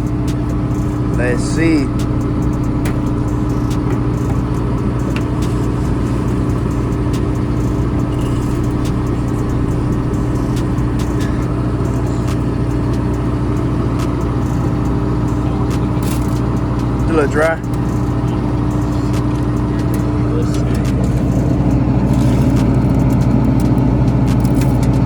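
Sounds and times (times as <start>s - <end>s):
harvester engine droning: 0.0s - 25.0s.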